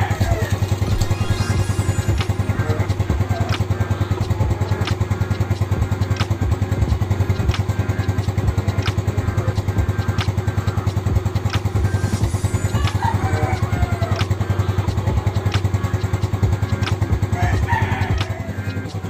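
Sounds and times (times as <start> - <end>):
scooter engine idling: 0.0 - 19.0
sharp clicks: 0.1 - 19.0.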